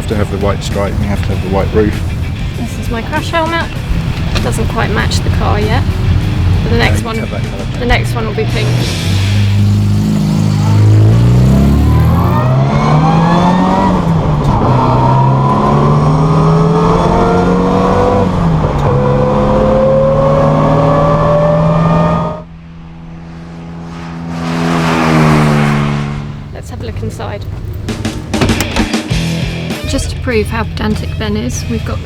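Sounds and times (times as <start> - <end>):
another engine: 0.0 - 17.6, 21.0 - 32.0
race car engine accelerating: 0.0 - 32.0.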